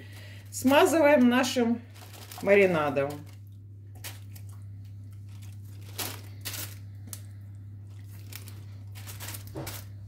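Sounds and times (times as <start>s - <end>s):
plastic bag crinkling: 0.0s - 10.0s
steady low hum: 0.0s - 10.0s.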